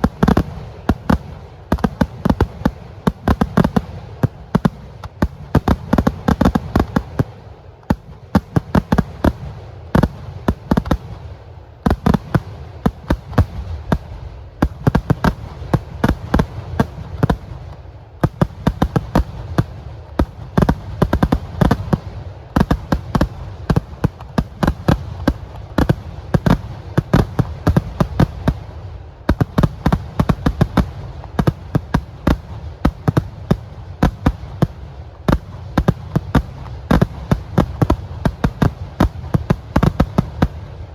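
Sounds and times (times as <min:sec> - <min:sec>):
firecracker bangs: 0:00.0 - 0:40.9.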